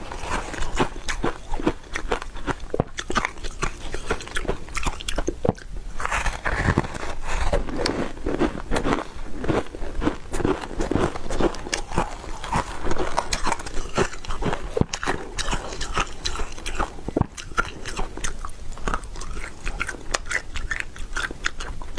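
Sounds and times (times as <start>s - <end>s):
crunching and chewing ice: 0.0s - 21.9s.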